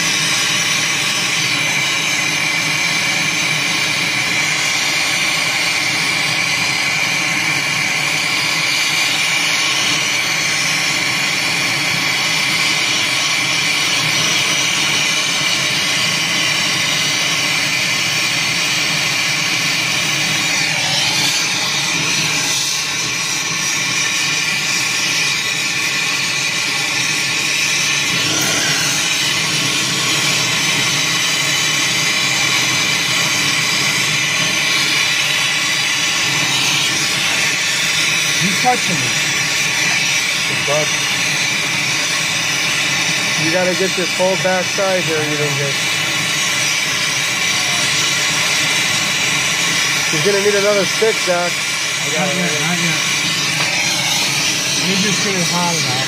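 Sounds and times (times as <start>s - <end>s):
torch flame hissing: 0.0s - 56.0s.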